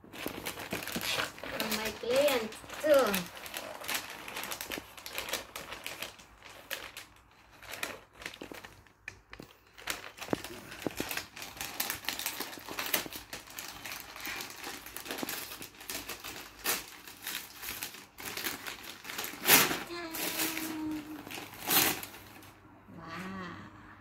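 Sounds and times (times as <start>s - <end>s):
wrapping paper crinkling: 0.0s - 22.6s.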